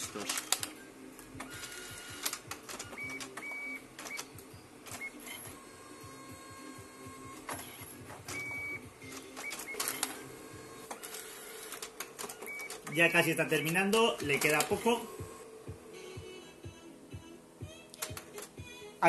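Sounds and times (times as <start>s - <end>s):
printer motors whining: 0.0s - 15.7s.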